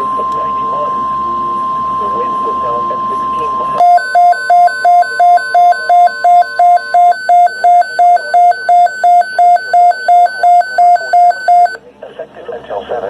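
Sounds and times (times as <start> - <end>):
steady warning alarm tone: 0.0 - 11.8
weather radio alarm beeping rapidly: 0.0 - 11.8.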